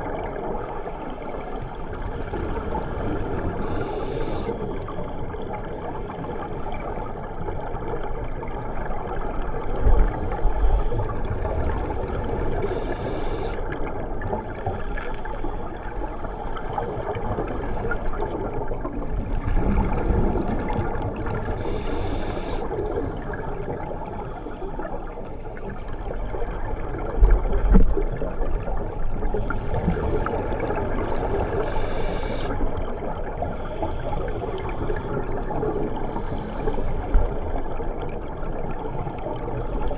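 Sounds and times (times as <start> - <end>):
muffled underwater rush: 0.0 - 39.9
regulator bubbles gurgling: 0.0 - 39.9.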